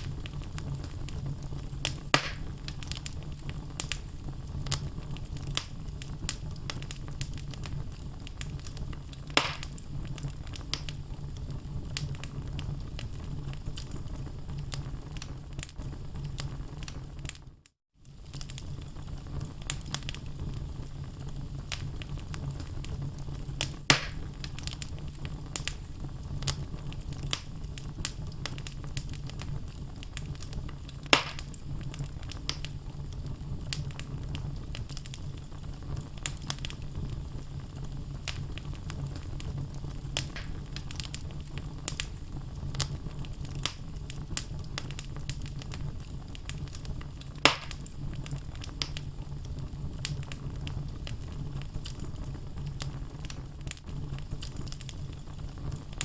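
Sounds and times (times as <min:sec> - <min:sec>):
loud fire pops: 0:00.0 - 0:17.5, 0:18.1 - 0:56.0
low rumble of flame: 0:00.0 - 0:56.0
wood logs crackling in fire: 0:00.0 - 0:56.0.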